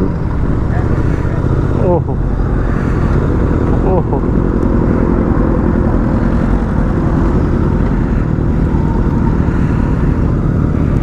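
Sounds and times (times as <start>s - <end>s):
motorcycle engine running: 0.0s - 11.0s
wind rushing on microphone: 0.0s - 11.0s.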